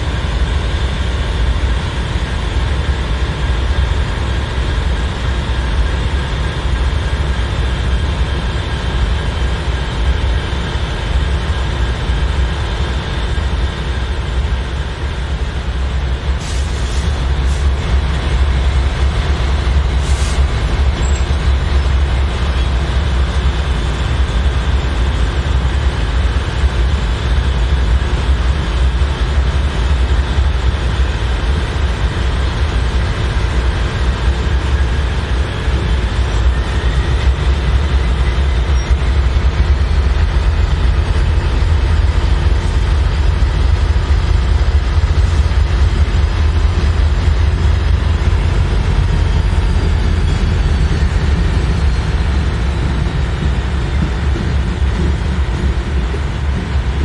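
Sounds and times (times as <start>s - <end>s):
diesel locomotive engine rumble: 0.0s - 57.0s
wheels squealing on rails: 0.0s - 57.0s.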